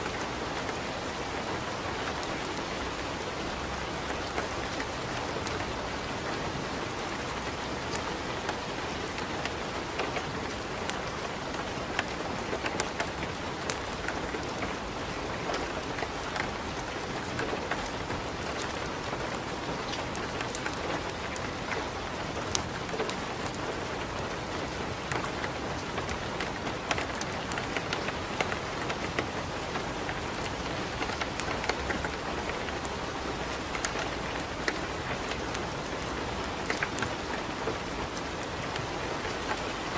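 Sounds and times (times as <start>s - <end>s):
steady rain hiss: 0.0s - 39.9s
wood fire crackling: 0.0s - 39.9s.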